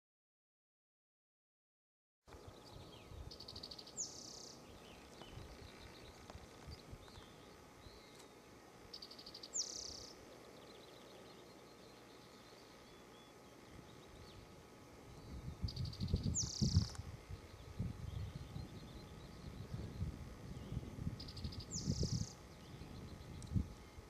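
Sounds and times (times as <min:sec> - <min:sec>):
songbird singing: 0:02.3 - 0:24.0.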